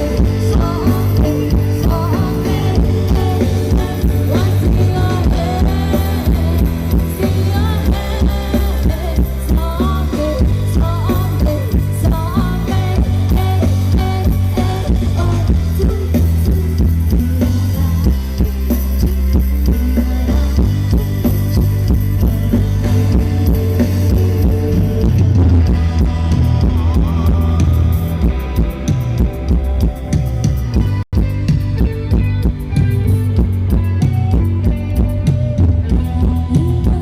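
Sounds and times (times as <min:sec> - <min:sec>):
rock band music: 0:00.0 - 0:37.0.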